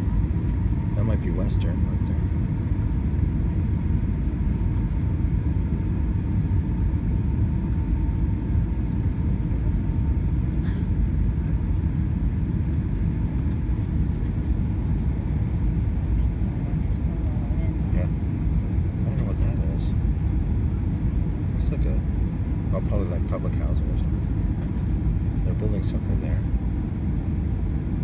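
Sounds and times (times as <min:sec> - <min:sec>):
airplane cabin roar: 0:00.0 - 0:28.0
faint steady whine: 0:00.0 - 0:28.0.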